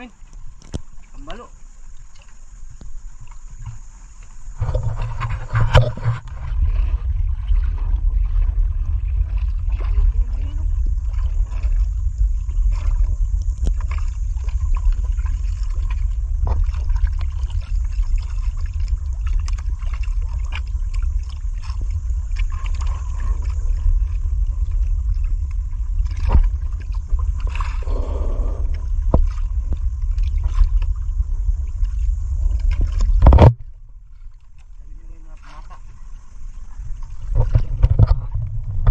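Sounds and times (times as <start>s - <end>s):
water splashing against boat: 0.0s - 38.9s
wind buffeting microphone: 4.5s - 34.2s, 36.3s - 38.9s.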